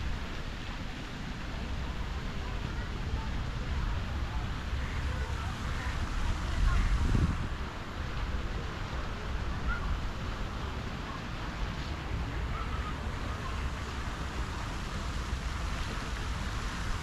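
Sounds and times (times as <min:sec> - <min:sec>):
fountain water splashing: 0:00.0 - 0:17.0
wind buffeting microphone: 0:01.5 - 0:17.0.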